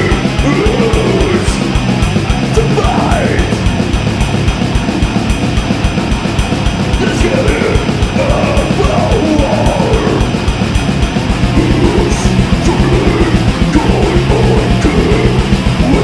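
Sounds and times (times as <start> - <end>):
heavily distorted guitars: 0.0 - 16.0
rapid drumming: 0.0 - 16.0.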